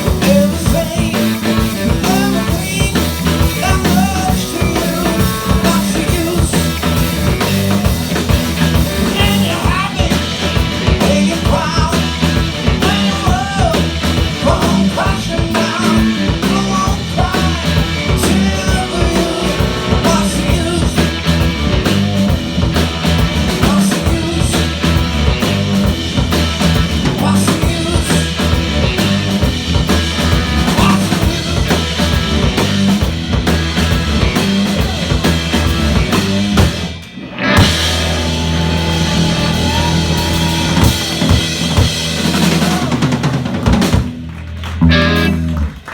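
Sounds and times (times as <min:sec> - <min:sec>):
bass line: 0:00.0 - 0:45.9
drum kit: 0:00.0 - 0:45.9
live rock band playing: 0:00.0 - 0:45.9.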